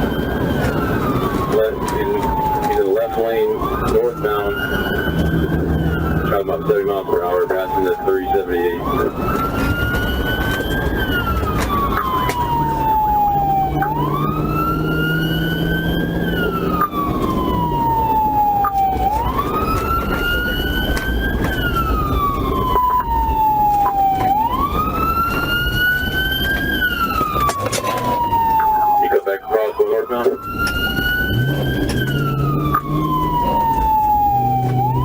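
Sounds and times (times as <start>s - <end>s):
car engine and road noise: 0.0s - 35.0s
police siren wailing: 0.0s - 35.0s.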